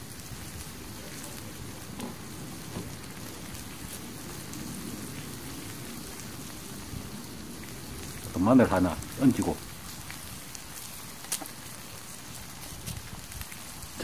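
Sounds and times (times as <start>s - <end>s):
meat sizzling on hot stone: 0.0s - 14.0s.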